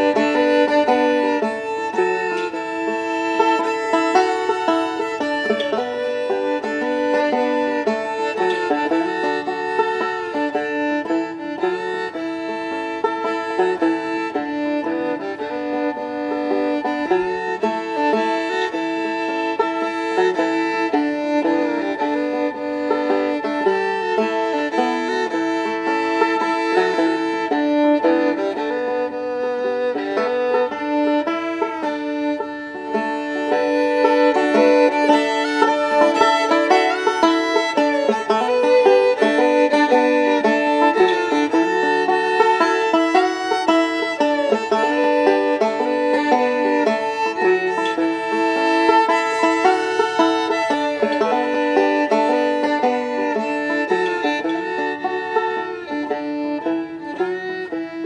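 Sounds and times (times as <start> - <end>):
banjo picking: 0.0 - 58.0
fiddle playing melody: 0.0 - 58.0.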